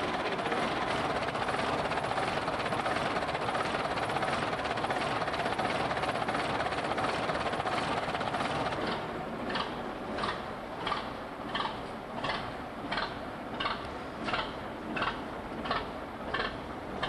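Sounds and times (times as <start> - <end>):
diesel engine running: 0.0 - 17.0
engine knocking: 0.0 - 17.0.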